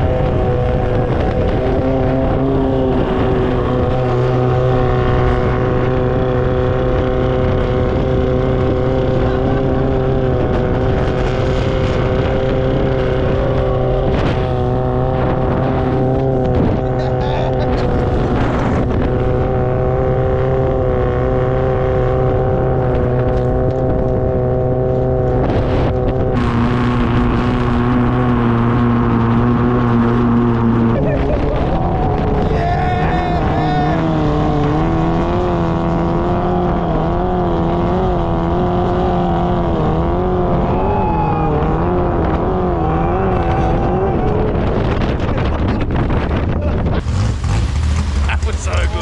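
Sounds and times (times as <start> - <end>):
boat engine running steadily: 0.0 - 49.0.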